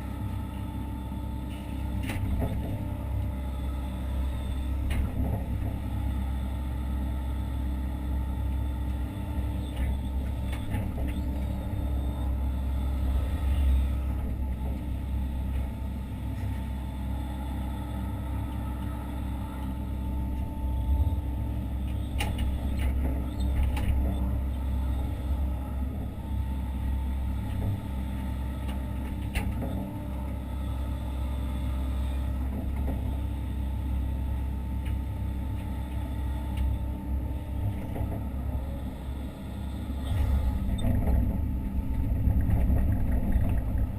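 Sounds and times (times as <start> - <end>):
excavator diesel engine rumbling: 0.0 - 43.9.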